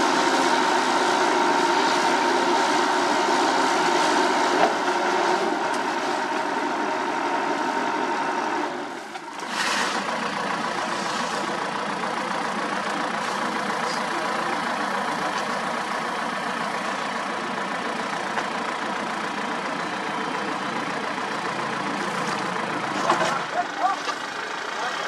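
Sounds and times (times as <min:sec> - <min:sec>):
heavy machinery engines running: 0:00.0 - 0:25.0.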